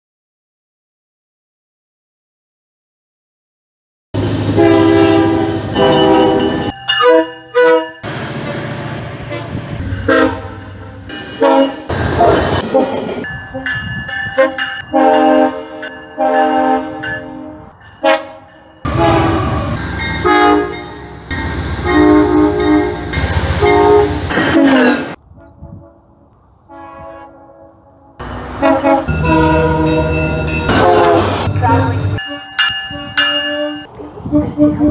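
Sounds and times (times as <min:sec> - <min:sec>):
locomotive air horns: 0:04.2 - 0:34.9.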